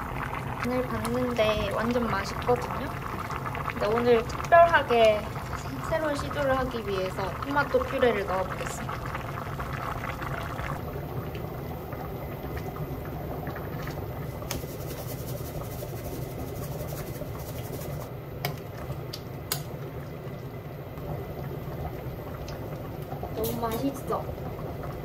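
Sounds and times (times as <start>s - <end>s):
stew bubbling in a pot: 0.0s - 25.0s.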